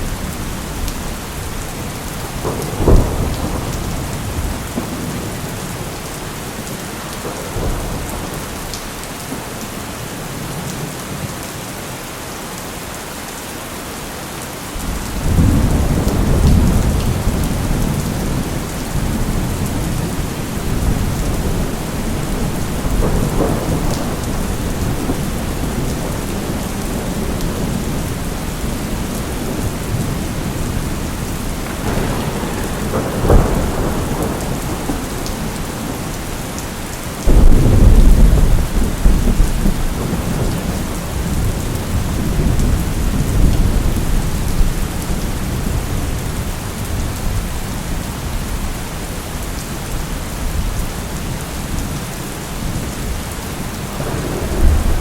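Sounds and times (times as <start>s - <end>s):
thunder cracking and rumbling: 0.0s - 9.5s, 14.8s - 49.2s, 52.6s - 55.0s
steady rain: 0.0s - 55.0s.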